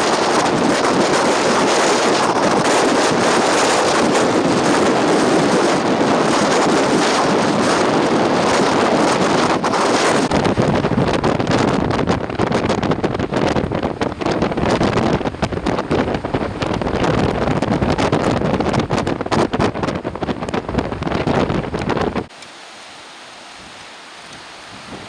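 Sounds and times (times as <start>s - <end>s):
gusty wind buffeting microphone: 0.0s - 22.4s, 23.6s - 25.0s.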